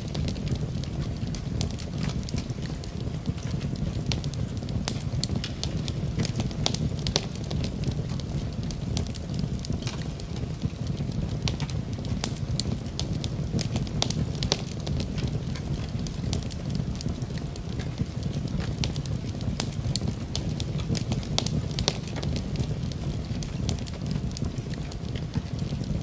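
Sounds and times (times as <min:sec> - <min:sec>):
gentle rain: 0:00.0 - 0:26.0
wood fire crackling: 0:00.0 - 0:26.0.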